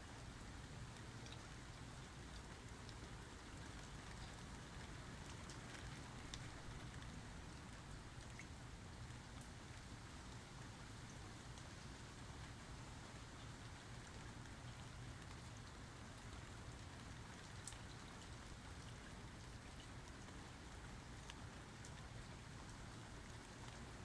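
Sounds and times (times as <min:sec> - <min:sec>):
soft rain falling: 0:00.0 - 0:24.0.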